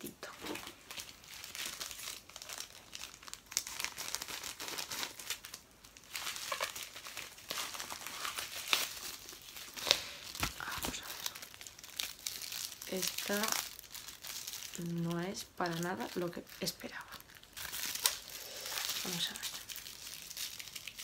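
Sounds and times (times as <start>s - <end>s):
parcel packaging crinkling and tearing: 0.3s - 21.0s.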